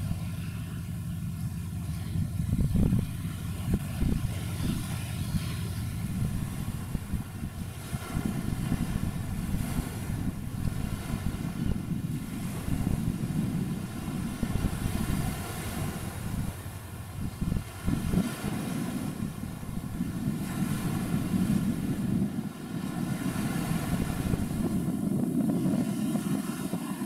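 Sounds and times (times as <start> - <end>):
distant engine drone: 0.0 - 27.0
wind buffeting microphone: 0.0 - 27.0.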